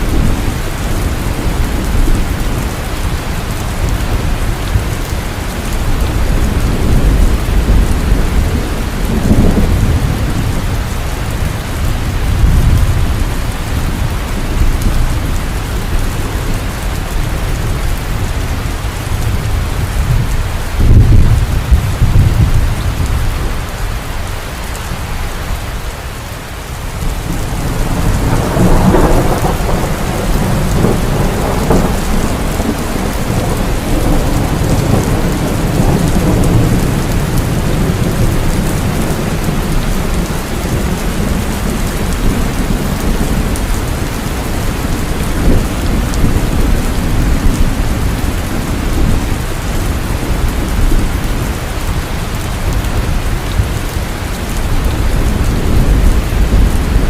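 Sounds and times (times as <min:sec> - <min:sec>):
rolling thunder: 0:00.0 - 0:23.8, 0:26.9 - 0:57.0
heavy rain falling: 0:00.0 - 0:57.0.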